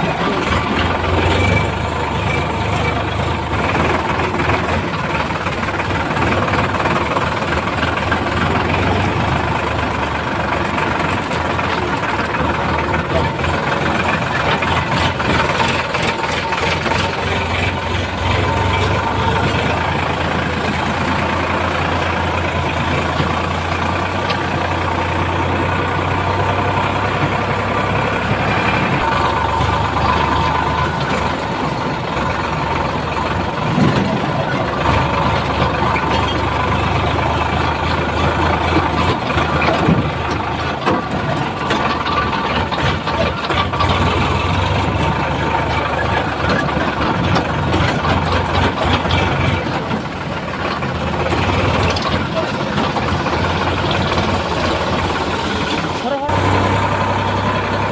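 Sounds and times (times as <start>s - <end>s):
diesel engine low hum: 0.0s - 57.9s.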